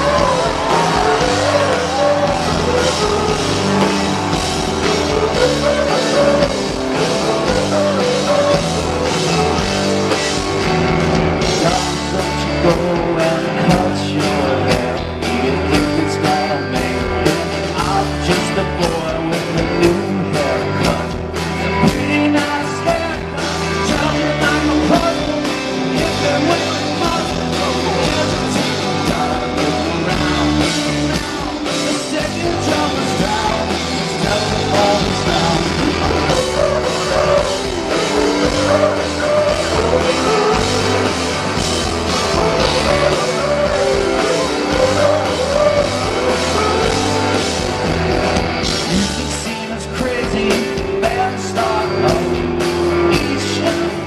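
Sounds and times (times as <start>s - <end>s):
person singing: 0.0s - 10.5s, 11.4s - 48.0s, 48.6s - 54.0s
live rock band playing: 0.0s - 54.0s.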